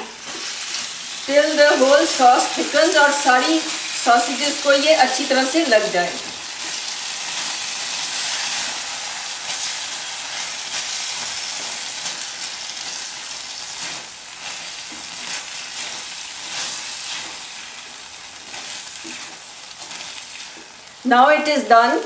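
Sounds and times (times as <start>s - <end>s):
sausages sizzling in a frying pan: 0.0s - 22.0s
utensil stirring in a pan: 0.2s - 21.0s.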